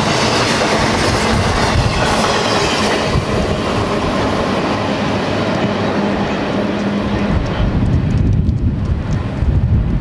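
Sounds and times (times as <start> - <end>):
freight train cars rumbling past: 0.0 - 10.0.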